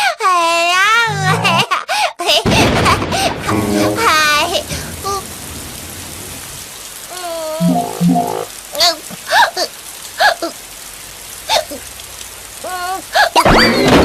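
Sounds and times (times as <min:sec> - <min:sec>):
rain hissing: 0:02.5 - 0:14.0.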